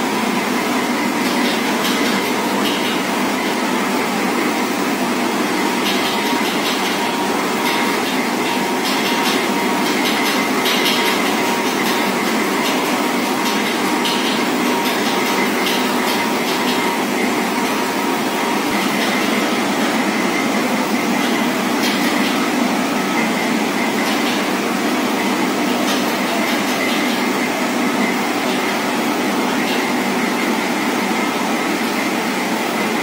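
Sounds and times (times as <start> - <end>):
train running on rails: 0.1 - 33.0.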